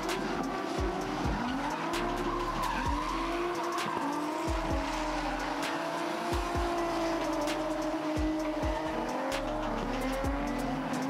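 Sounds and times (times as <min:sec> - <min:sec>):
car engines revving: 0:00.0 - 0:11.0
tyres skidding and screeching: 0:00.0 - 0:11.0.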